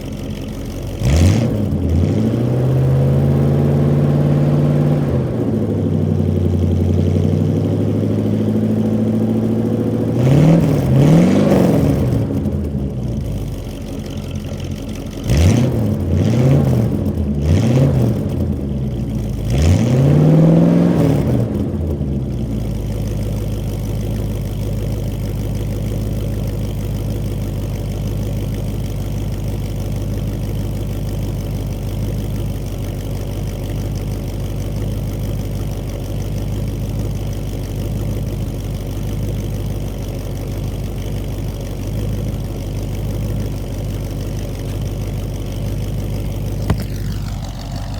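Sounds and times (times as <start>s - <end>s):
pickup engine revving and idling: 0.0s - 47.9s.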